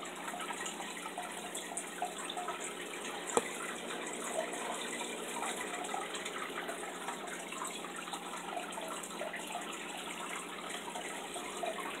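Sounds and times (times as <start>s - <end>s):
water trickling in aquarium: 0.0s - 12.0s.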